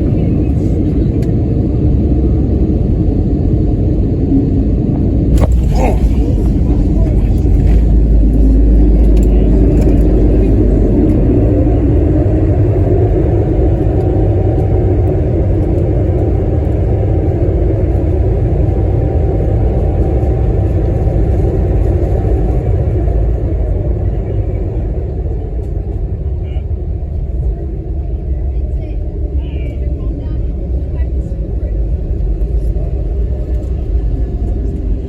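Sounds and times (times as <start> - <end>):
airplane cabin rumble: 0.0 - 35.0
jet engine whine: 0.0 - 35.0.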